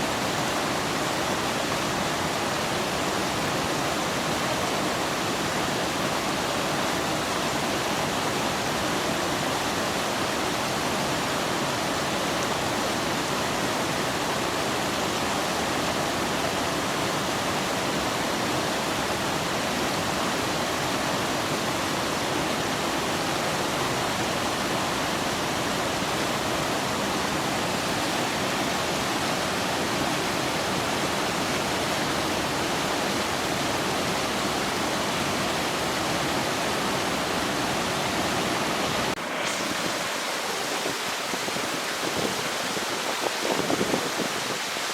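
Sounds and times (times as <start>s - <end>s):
rushing water: 0.0s - 44.9s.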